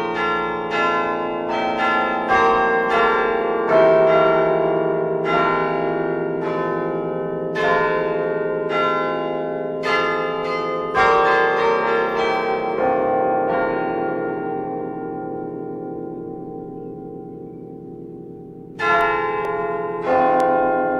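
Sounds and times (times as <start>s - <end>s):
church bells ringing: 0.0s - 20.9s.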